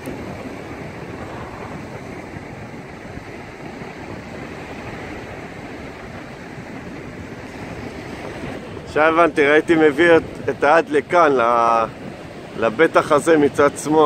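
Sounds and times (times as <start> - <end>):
sea surf on shore: 0.0 - 14.0
wind on microphone: 0.0 - 14.0.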